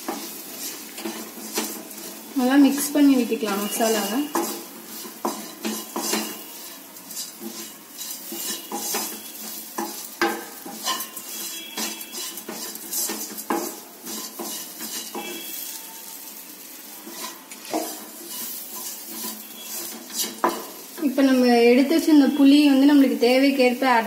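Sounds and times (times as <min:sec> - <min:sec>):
spatula scraping a pan: 0:00.0 - 0:21.5
food sizzling in a pan: 0:00.0 - 0:24.0.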